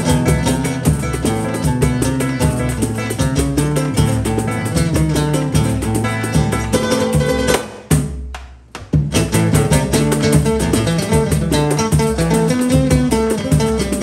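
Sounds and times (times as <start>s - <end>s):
strummed small guitar: 0.0s - 8.0s, 9.0s - 14.0s
hand drum: 0.0s - 14.0s
pandeiro rhythm: 0.0s - 14.0s.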